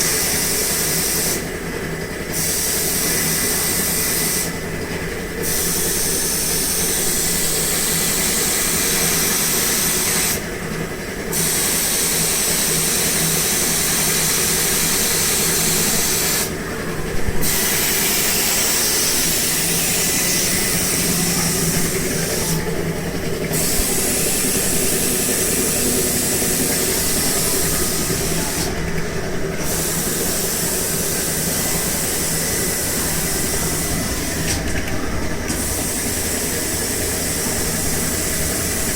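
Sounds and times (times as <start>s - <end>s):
tape cutting machine hissing whir: 0.0s - 38.9s.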